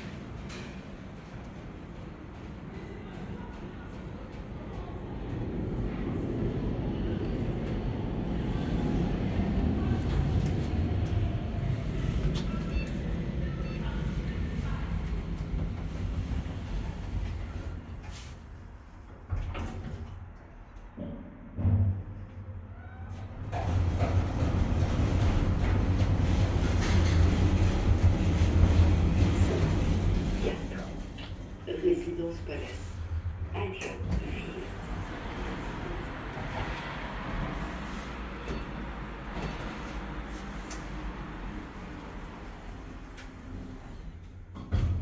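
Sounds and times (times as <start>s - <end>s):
elevator low rumble: 0.0s - 45.0s.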